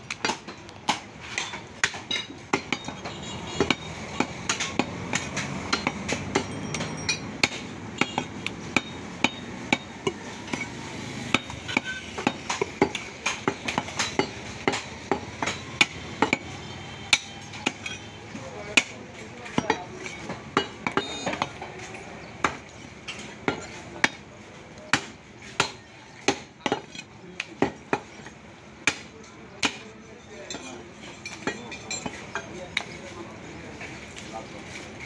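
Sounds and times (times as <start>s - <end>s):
background hubbub: 0.0s - 35.0s
meat cleavers chopping on wood: 0.1s - 30.0s, 31.3s - 33.1s.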